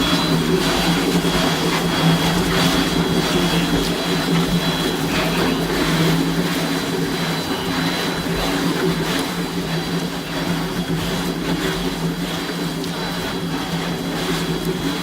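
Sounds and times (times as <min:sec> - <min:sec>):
concrete mixer hum: 0:00.0 - 0:15.0.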